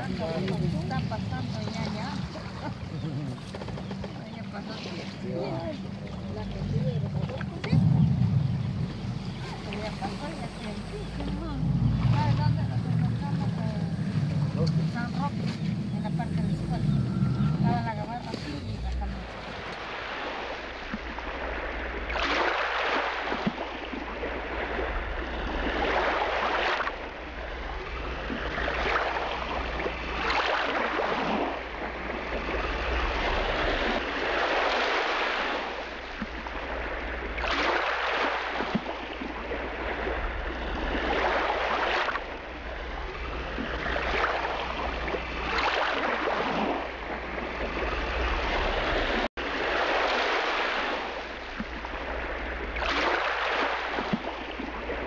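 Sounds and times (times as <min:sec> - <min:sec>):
steady low rumble: 0:00.0 - 0:22.2, 0:23.2 - 0:30.4, 0:31.2 - 0:37.6, 0:38.3 - 0:55.0
water splashing against boat hull: 0:00.0 - 0:55.0.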